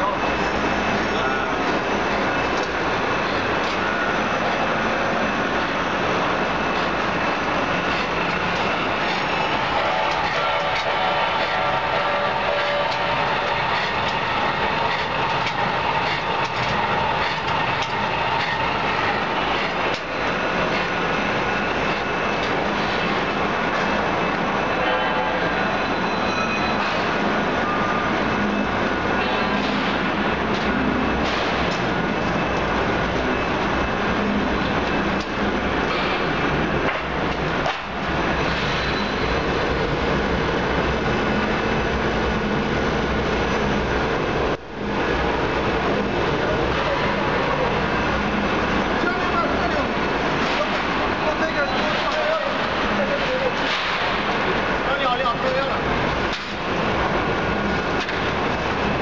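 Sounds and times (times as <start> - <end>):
machinery running: 0.0 - 59.0.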